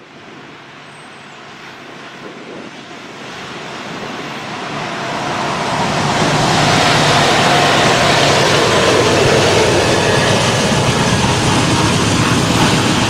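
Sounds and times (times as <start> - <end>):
train rushing rumble: 0.0 - 13.0.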